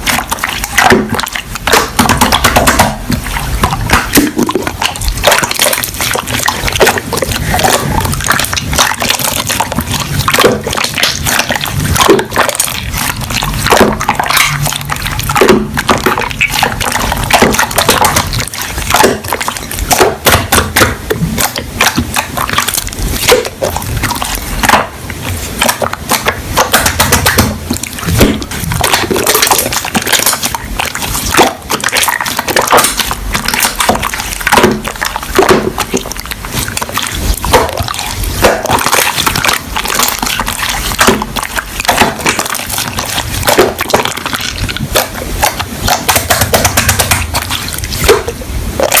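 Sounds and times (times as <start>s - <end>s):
slime squishing: 0.0s - 49.0s.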